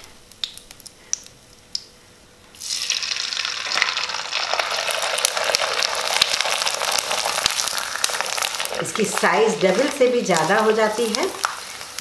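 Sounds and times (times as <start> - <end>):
papad crackling in hot oil: 0.0 - 1.9, 2.5 - 12.0.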